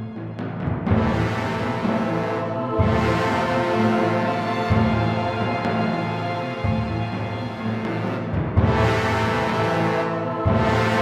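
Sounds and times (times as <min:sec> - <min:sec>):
dark cinematic music: 0:00.0 - 0:11.0.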